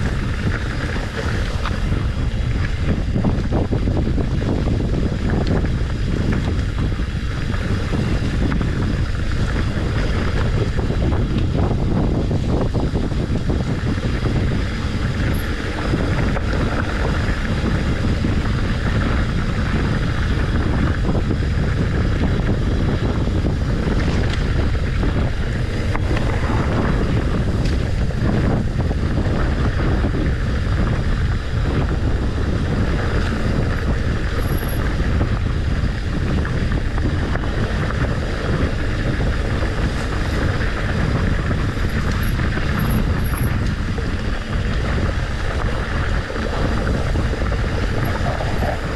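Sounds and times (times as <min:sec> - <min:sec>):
bike tyres rumbling on dirt: 0:00.0 - 0:48.9
wind noise on microphone: 0:00.0 - 0:48.9.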